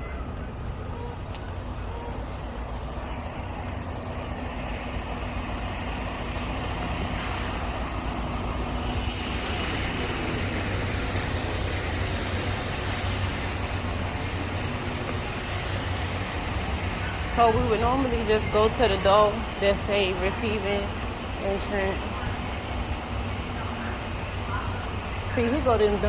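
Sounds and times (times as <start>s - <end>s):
road noise: 0.0s - 26.0s
vehicle engines rumbling: 0.0s - 26.0s.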